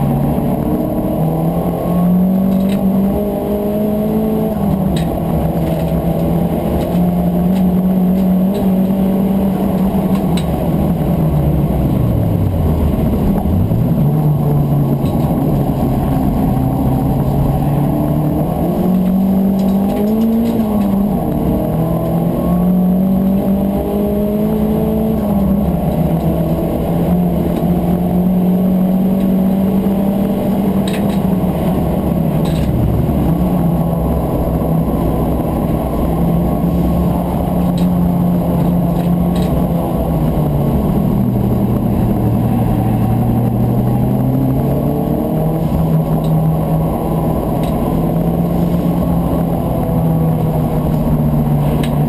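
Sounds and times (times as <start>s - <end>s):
race car engine from inside cabin: 0.0s - 52.0s.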